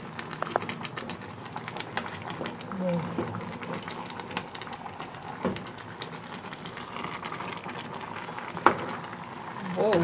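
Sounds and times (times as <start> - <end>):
porridge bubbling in a pot: 0.0 - 10.0.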